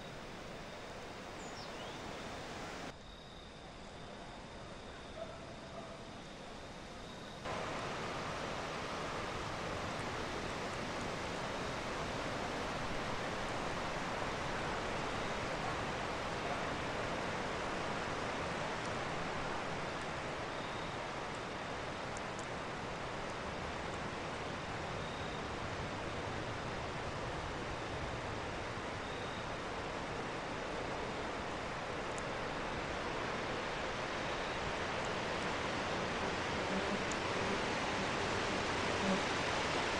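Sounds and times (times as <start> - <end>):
rushing outdoor background noise: 0.0 - 39.9.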